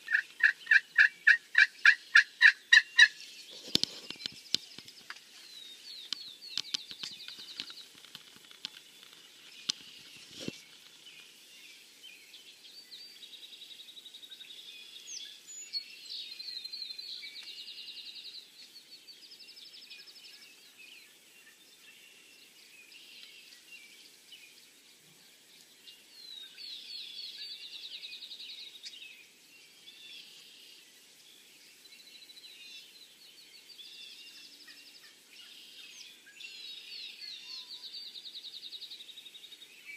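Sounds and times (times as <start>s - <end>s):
faint open-field ambience: 0.0s - 39.9s
songbirds trilling: 0.0s - 39.9s.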